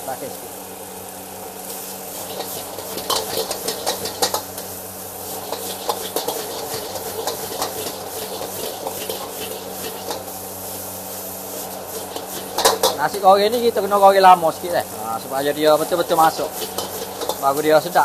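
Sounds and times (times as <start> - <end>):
steady sizzle: 0.0 - 18.0
utensil scraping and knocking wok: 1.7 - 18.0.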